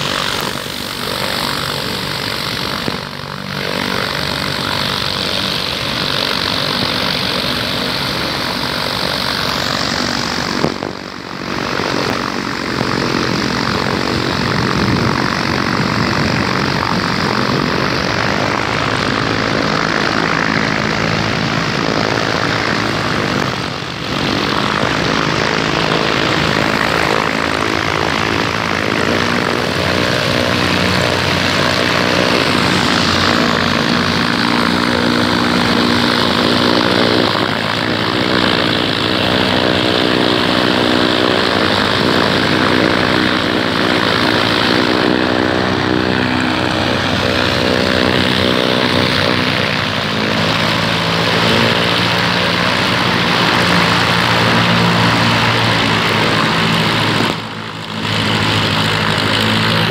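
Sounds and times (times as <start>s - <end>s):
light aircraft engines droning: 0.0s - 59.9s.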